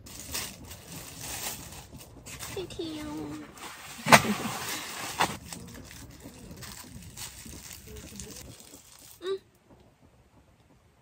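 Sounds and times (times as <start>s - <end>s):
plastic gloves crinkling: 0.0s - 9.4s.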